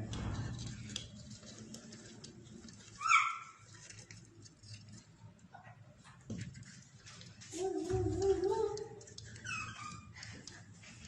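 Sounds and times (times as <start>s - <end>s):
scratching and clicking in cage: 0.0s - 11.0s.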